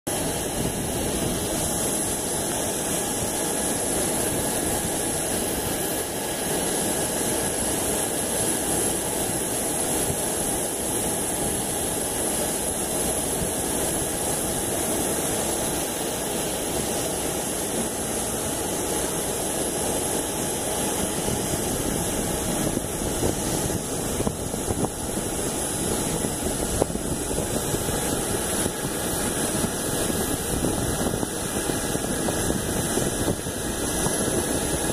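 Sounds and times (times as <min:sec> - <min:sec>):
jet engines rushing with high whine: 0:00.1 - 0:34.9.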